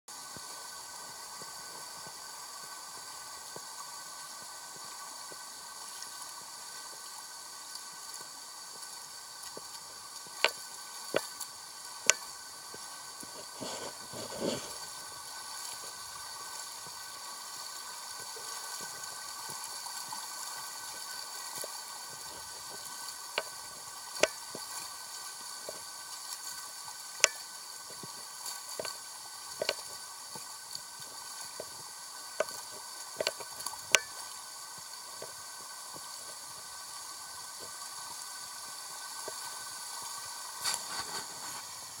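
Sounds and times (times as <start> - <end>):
stream flowing over rocks: 0.1 - 42.0.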